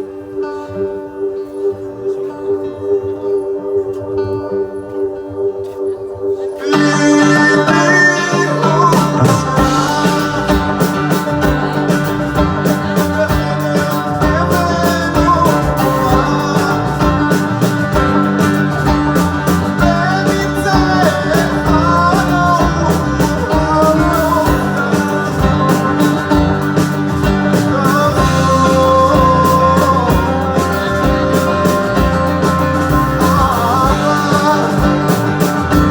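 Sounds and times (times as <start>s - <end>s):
rock music with guitar and drums: 6.6s - 35.9s.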